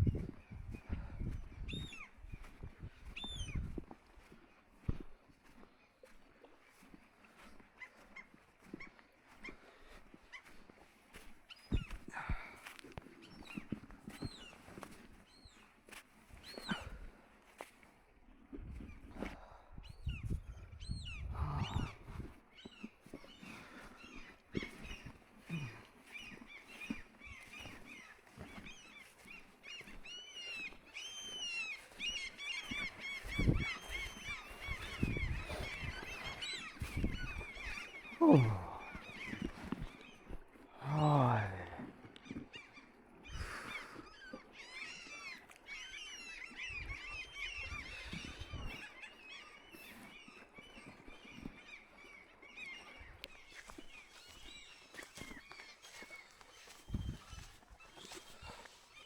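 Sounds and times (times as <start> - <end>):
birds calling: 0.0 - 17.8, 18.6 - 59.0.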